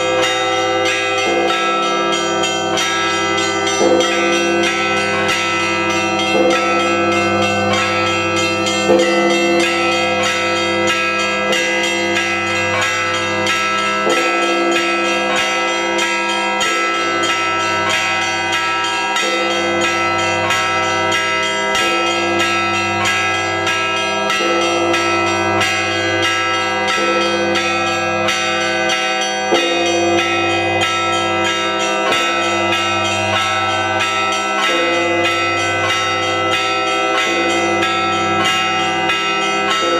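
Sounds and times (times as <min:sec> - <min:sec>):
deep church bells: 0:00.0 - 0:39.9
small church bells pealing: 0:00.0 - 0:39.9.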